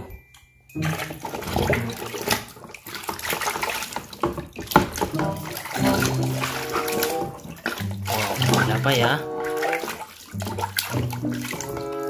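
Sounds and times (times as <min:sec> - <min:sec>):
water sloshing in plastic tub: 0:00.0 - 0:12.0.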